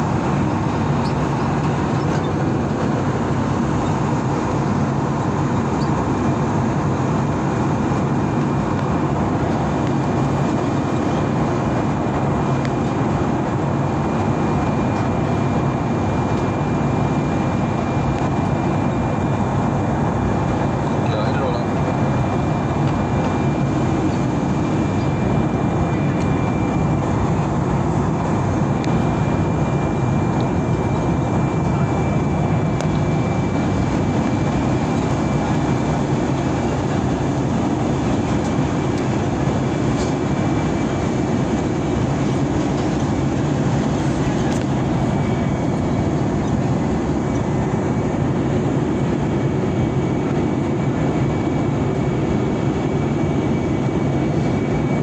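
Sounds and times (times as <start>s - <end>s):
faint thin steady whine: 0.0s - 55.0s
jet engines rumble and hiss: 0.0s - 55.0s.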